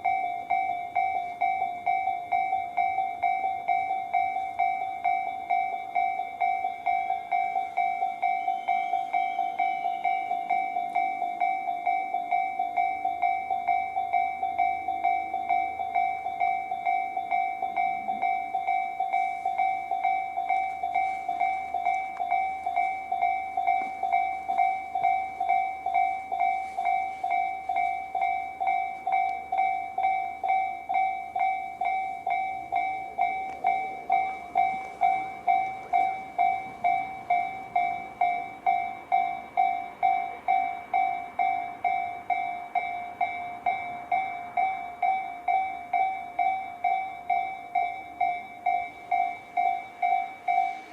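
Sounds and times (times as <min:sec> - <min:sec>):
level crossing warning bell ringing: 0:00.0 - 0:50.9
train passing: 0:00.0 - 0:50.9.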